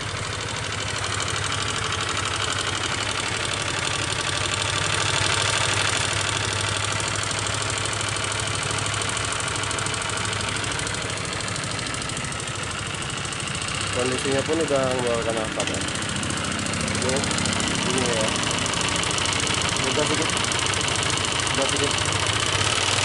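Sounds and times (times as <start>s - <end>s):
scooter engine idling: 0.0s - 23.0s.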